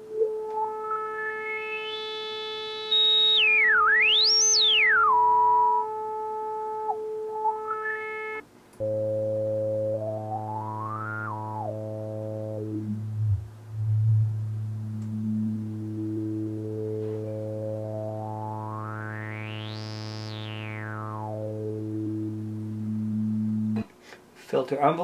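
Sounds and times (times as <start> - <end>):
synthesizer note with resonant sweep: 0.0 - 23.8.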